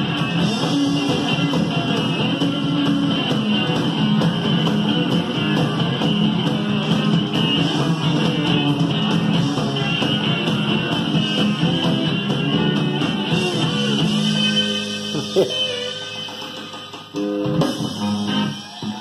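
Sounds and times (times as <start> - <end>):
stand-up bass notes: 0.0 - 18.5
band music over loudspeakers: 0.0 - 19.0.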